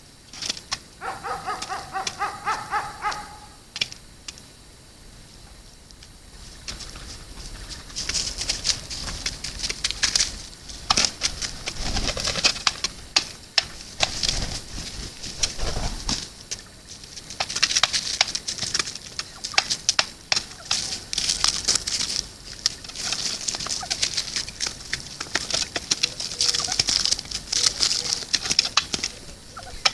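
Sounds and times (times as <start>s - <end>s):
birds pecking and scratching: 0.2s - 4.5s, 5.2s - 29.9s
rustling: 0.3s - 29.9s.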